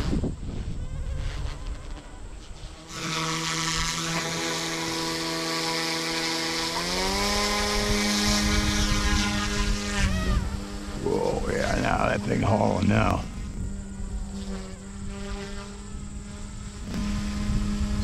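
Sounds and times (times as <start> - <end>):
model helicopter rotors whining: 0.0 - 18.0.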